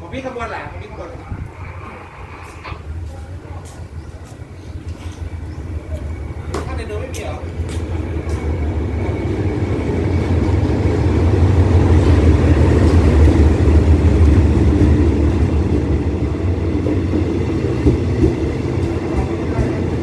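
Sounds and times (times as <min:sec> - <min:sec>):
diesel locomotive rumbling past: 0:00.0 - 0:20.0
train coaches rolling by: 0:00.0 - 0:20.0.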